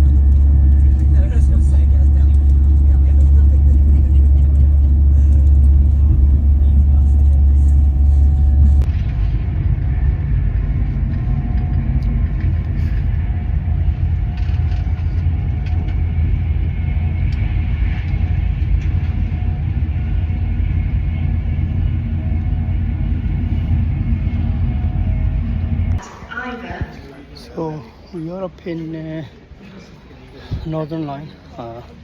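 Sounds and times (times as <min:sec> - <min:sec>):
train running on rails: 0:00.0 - 0:26.6.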